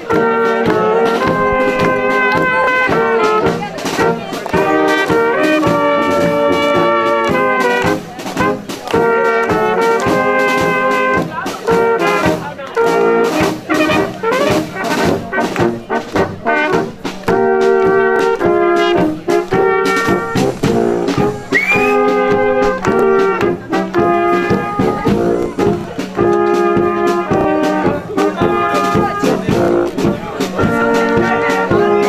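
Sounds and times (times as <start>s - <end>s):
brass band playing dance tune: 0.0s - 32.0s.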